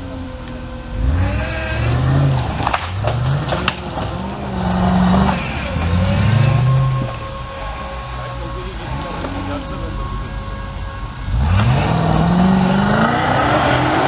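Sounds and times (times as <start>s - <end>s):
engine revving in bursts: 0.0s - 14.0s.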